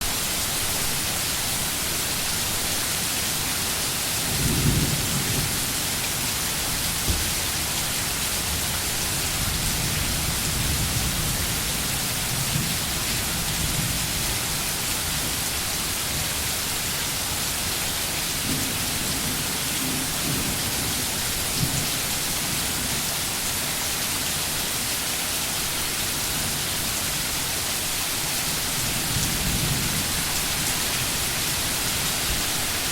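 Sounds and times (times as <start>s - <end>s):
heavy rain hiss: 0.0s - 32.9s.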